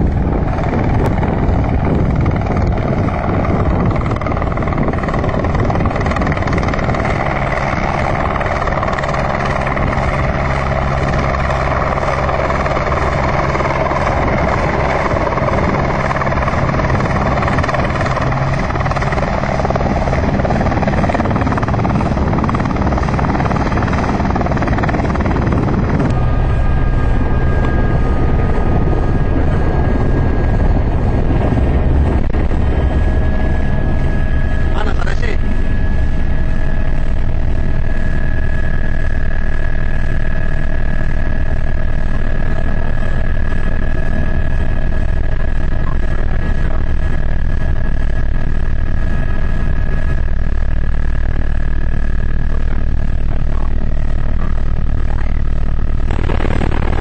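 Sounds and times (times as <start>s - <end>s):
helicopter engine and rotor: 0.0s - 57.0s.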